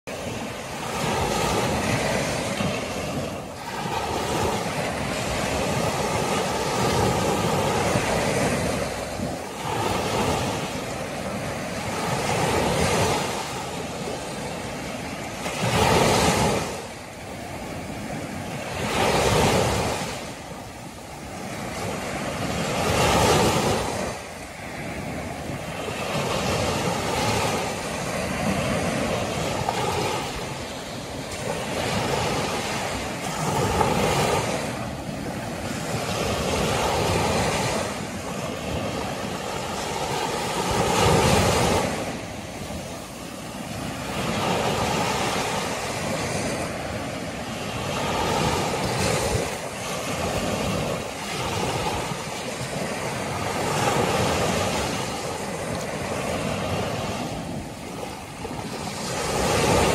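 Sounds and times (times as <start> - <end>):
surf washing on sandy beach: 0.1 - 59.9.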